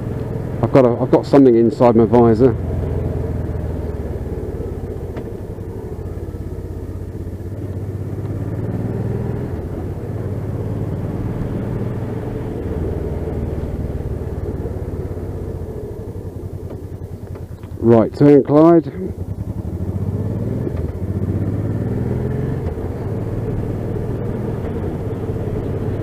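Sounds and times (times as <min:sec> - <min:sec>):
wind rumble: 0:00.0 - 0:18.2, 0:19.1 - 0:26.0
motorcycle engine at speed: 0:00.0 - 0:26.0.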